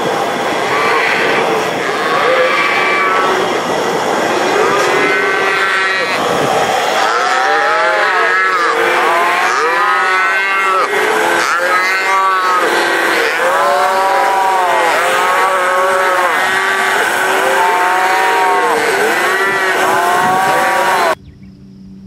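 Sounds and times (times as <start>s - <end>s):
calves bawling: 0.0s - 21.2s.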